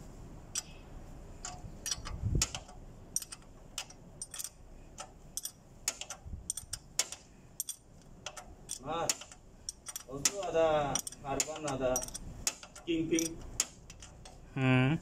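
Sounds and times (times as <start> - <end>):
spanner clicking on metal: 0.5 - 0.8, 1.4 - 14.4.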